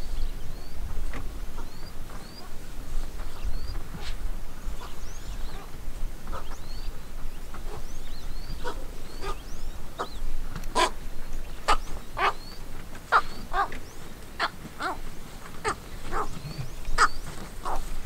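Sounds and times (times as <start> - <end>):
harsh bird calls: 1.4 - 18.0.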